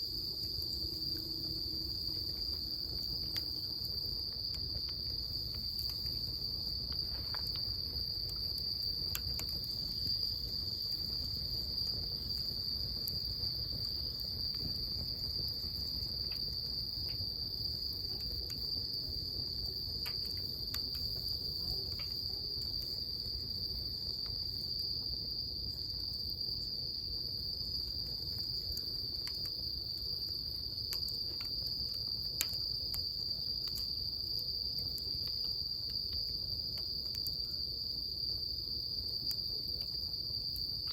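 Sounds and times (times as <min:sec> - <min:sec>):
bonfire crackling and popping: 0:00.0 - 0:40.9
insects trilling: 0:00.0 - 0:40.9.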